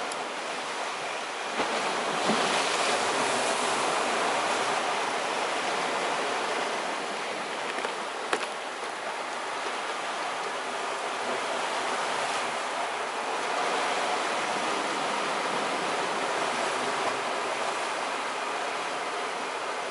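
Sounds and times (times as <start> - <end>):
sea waves washing on rocks: 0.0 - 19.9.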